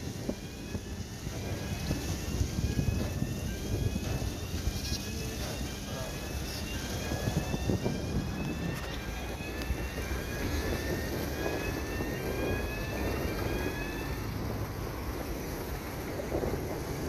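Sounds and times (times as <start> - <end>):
ferry engine rumbling: 0.0 - 17.0
rising high whine: 0.0 - 17.0.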